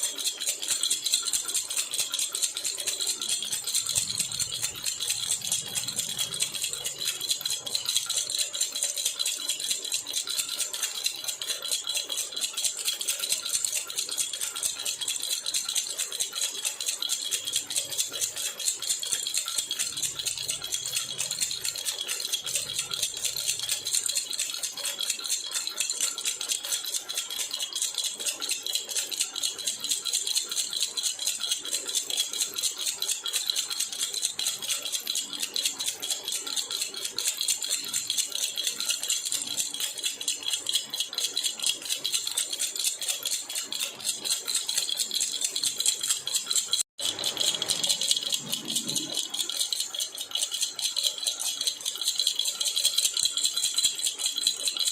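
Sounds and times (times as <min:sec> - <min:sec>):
baby rattle shaken: 0:00.0 - 0:54.9.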